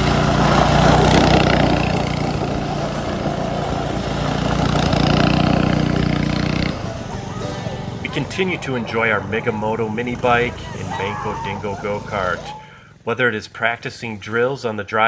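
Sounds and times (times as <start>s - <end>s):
small gas engine revving: 0.0s - 13.4s.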